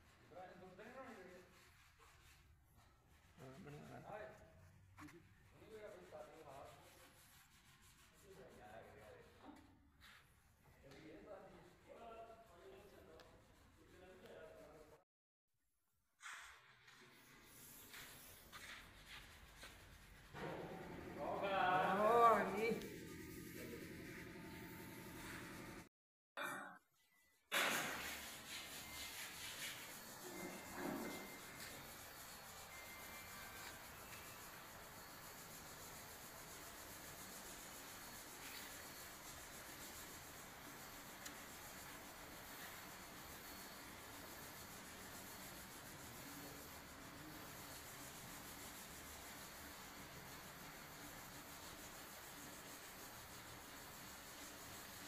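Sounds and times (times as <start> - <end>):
cloth rubbing on wood: 0.0 - 10.5, 17.0 - 25.9, 27.7 - 55.0.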